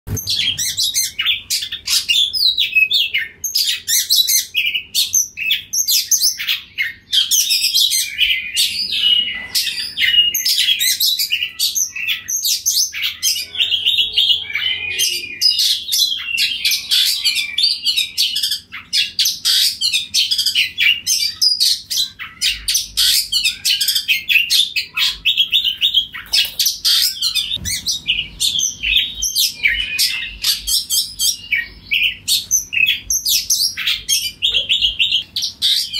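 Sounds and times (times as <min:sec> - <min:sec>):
bird singing: 0:00.1 - 0:35.9.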